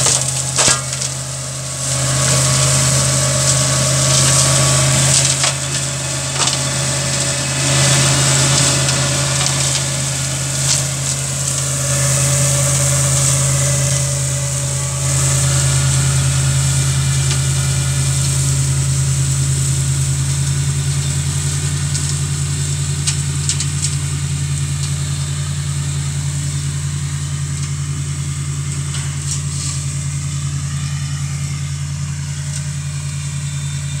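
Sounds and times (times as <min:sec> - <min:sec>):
flail mower rotor hissing: 0:00.0 - 0:34.0
tractor engine running: 0:00.0 - 0:34.0.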